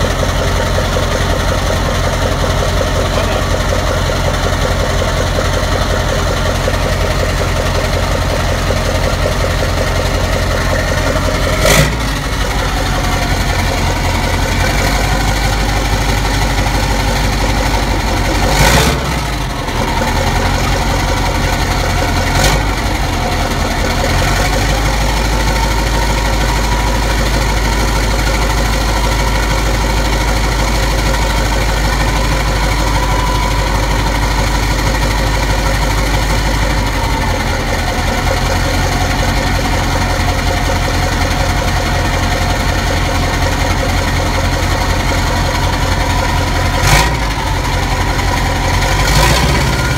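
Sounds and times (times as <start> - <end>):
diesel truck idling: 0.0 - 49.9
loud exhaust bursts: 0.0 - 49.9.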